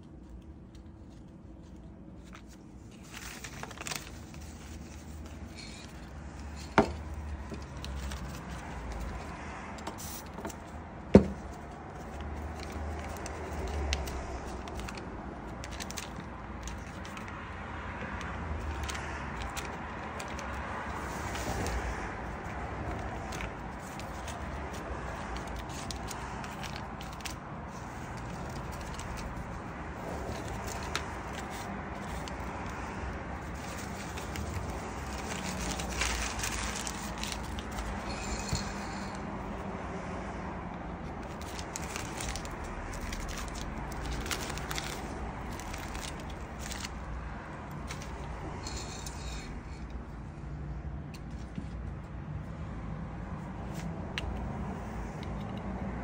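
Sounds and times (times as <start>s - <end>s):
small clicks and scrapes: 0.0s - 10.8s, 11.4s - 39.3s, 40.8s - 50.1s, 53.4s - 56.0s
paper rustling and crinkling: 0.0s - 39.6s, 41.0s - 49.9s.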